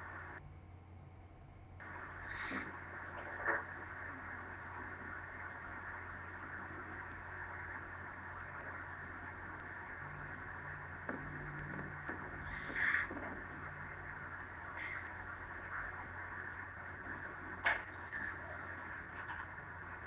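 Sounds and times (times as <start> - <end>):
microphone hiss and hum: 0.0 - 20.0.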